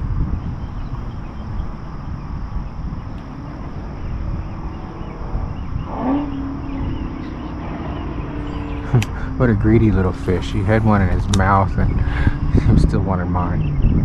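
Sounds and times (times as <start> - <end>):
wind rumbling on microphone: 0.0 - 14.0
rising tone: 0.9 - 12.6.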